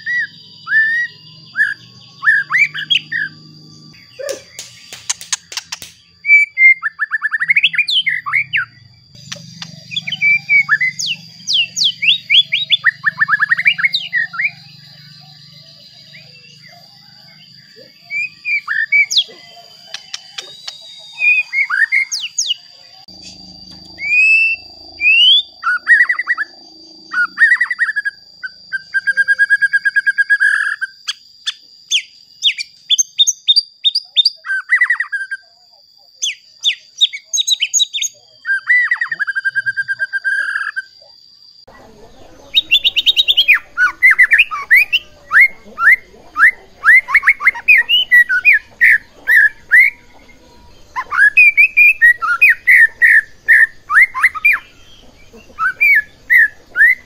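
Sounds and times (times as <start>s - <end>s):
bird singing whistles and trills: 0.0s - 41.0s, 42.2s - 57.0s.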